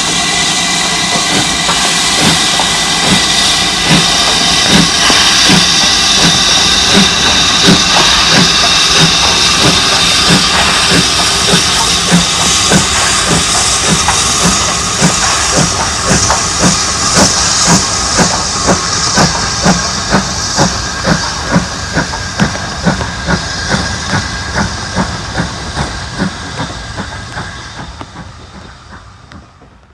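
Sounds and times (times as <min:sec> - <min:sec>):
steam hissing: 0:00.0 - 0:29.9
steam locomotive exhaust beats: 0:00.0 - 0:29.9.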